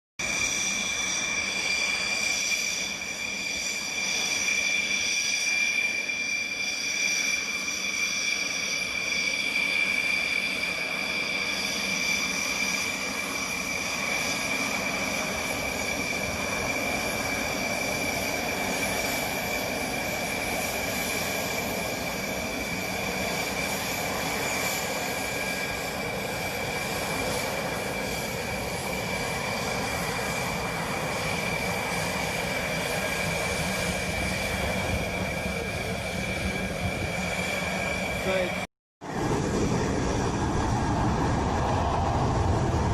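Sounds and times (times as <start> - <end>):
jet engine rushing noise: 0.2 - 42.9
jet engines whining: 0.2 - 42.9.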